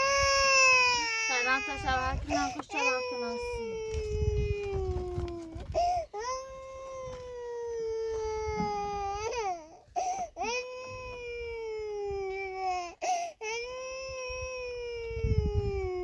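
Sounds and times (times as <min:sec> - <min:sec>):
baby crying: 0:00.0 - 0:16.0.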